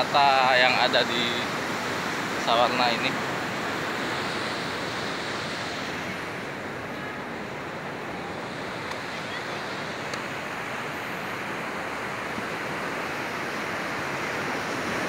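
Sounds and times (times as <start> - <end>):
waves breaking on a beach: 0.0 - 15.0.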